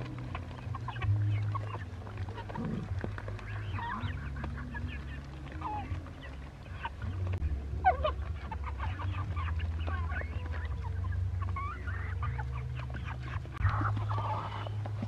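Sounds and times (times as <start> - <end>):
chickens and ducks clucking: 0.0 - 15.0.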